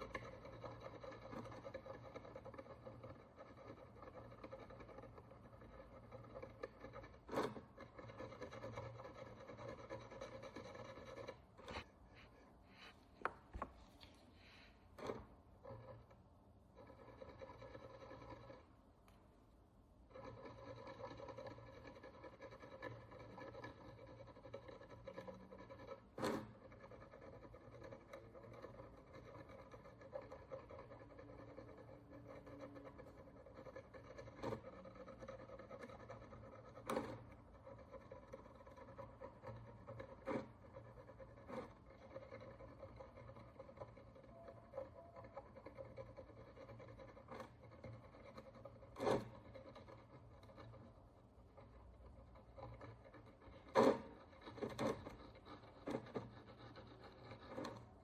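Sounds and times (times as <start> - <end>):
tool scratching a coin: 0.0 - 18.8, 20.0 - 58.0.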